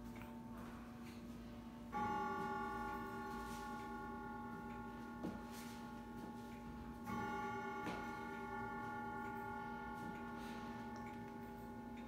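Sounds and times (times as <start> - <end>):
clock chime strokes: 1.9 - 12.0
clock ticking: 1.9 - 12.0.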